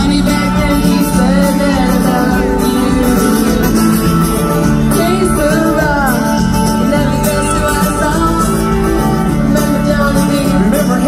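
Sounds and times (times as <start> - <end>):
live band with guitars: 0.0 - 11.0.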